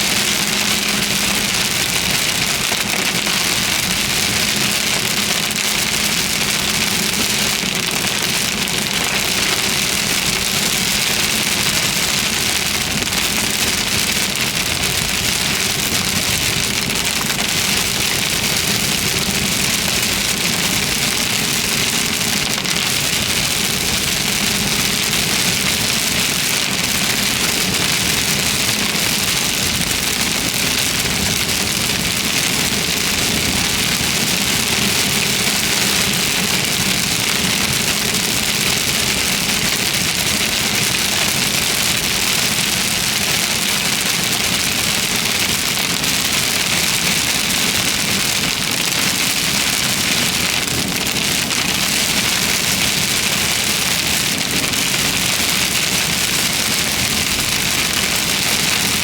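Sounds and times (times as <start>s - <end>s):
heavy rain hitting a car: 0.0s - 59.0s.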